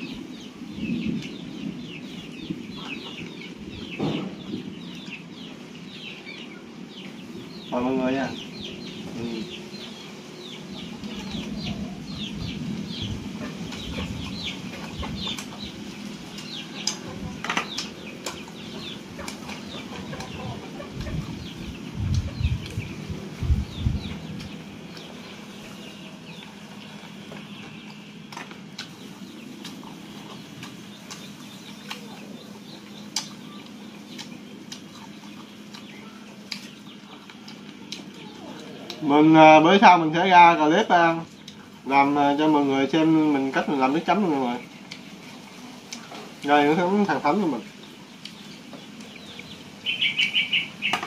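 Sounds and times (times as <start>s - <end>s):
chickens clucking and cheeping: 0.0s - 51.0s.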